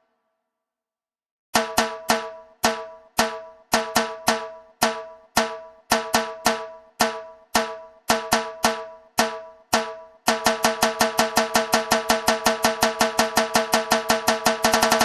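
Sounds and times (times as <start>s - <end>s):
drum strokes ringing: 1.6s - 15.0s.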